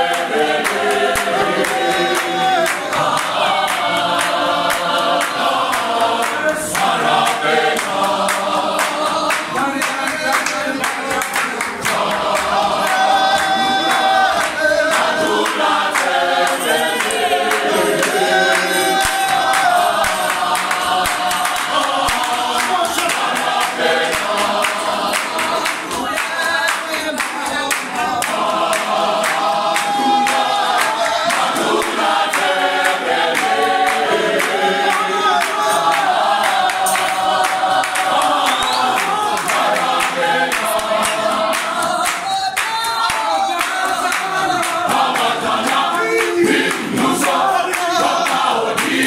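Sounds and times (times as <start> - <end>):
choir singing gospel song: 0.0 - 49.0
hand claps: 0.0 - 49.0.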